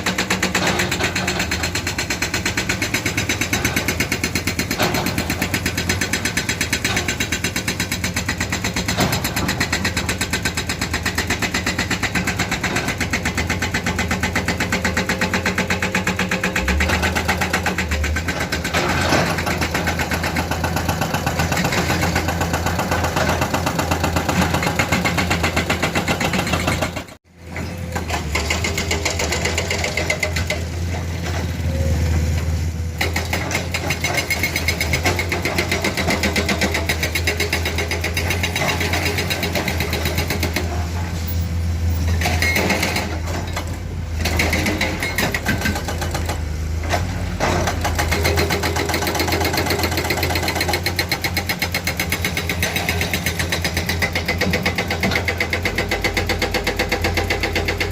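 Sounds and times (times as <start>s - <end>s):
diesel engine clattering: 0.0s - 57.9s.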